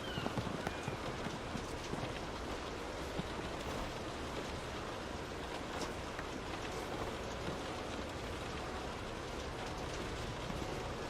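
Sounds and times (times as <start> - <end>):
rain drops tapping on window: 0.0 - 11.0.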